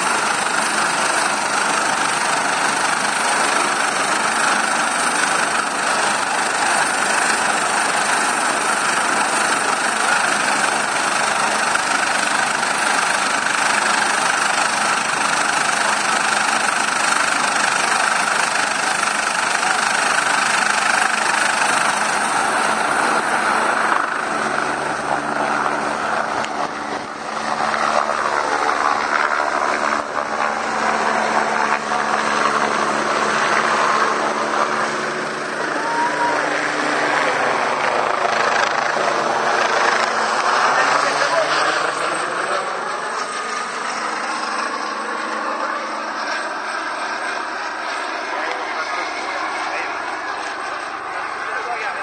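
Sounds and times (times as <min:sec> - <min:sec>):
helicopter rotor running: 0:00.0 - 0:52.0.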